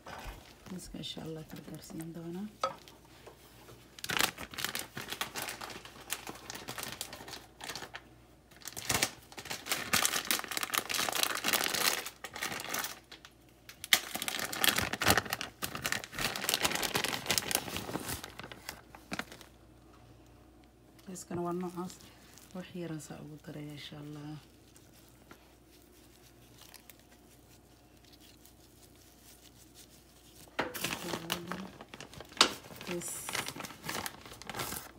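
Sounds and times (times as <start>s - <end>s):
plastic bag crinkling: 0.0s - 19.7s, 21.0s - 34.9s.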